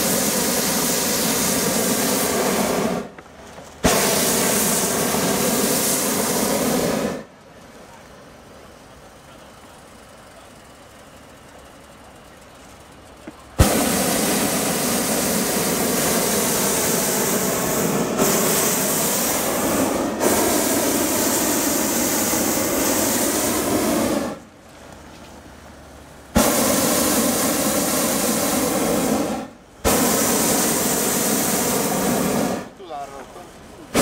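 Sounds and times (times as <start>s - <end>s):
propane burner roaring: 0.0s - 34.0s.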